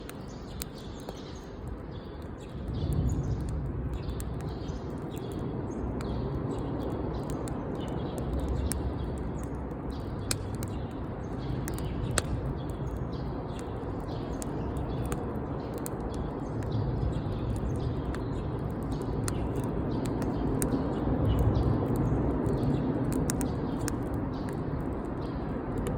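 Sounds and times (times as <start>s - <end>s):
birds chirping: 0.0s - 25.9s
wood fire crackling: 0.0s - 25.9s.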